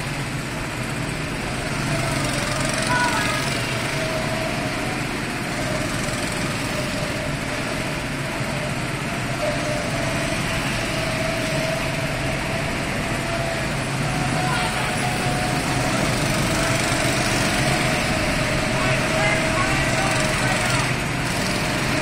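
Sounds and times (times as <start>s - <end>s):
go-kart engines whining: 0.0s - 22.0s.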